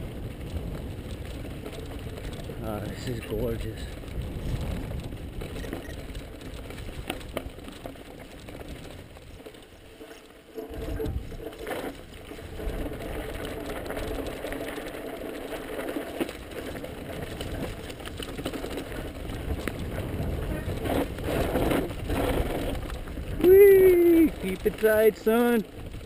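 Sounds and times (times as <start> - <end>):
bike rattling: 0.0 - 26.0
bike tyres on dirt and rock: 0.0 - 26.0.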